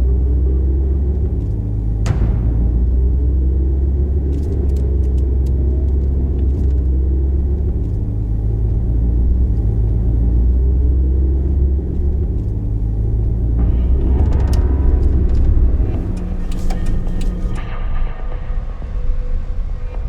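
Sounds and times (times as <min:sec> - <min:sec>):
car engine and road noise: 0:00.0 - 0:18.1.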